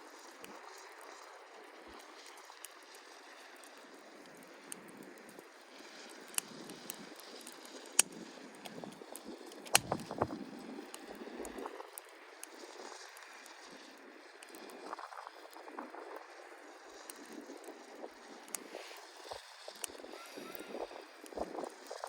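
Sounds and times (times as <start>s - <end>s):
campfire flames rushing: 0.0s - 22.0s
fire popping and crackling: 0.1s - 22.0s.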